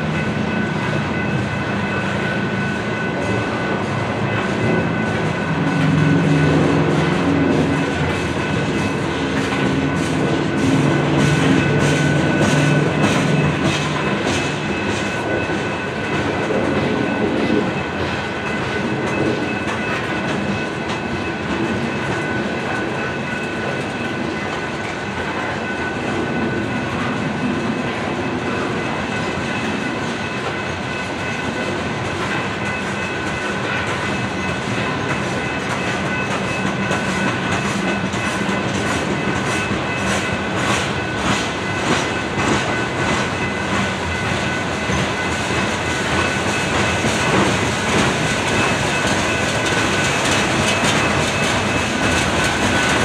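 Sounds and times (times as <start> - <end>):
clickety-clack over rail joints: 0.0 - 53.0
high ringing from wheels: 0.0 - 53.0
train wheels rumbling on rails: 0.0 - 53.0.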